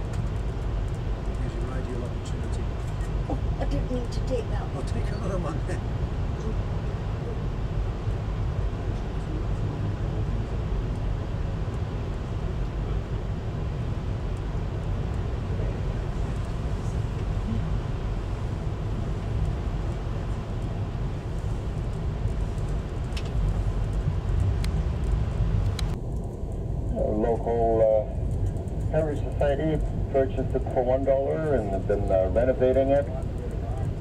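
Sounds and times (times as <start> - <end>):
train rumbling along track: 0.0 - 34.0.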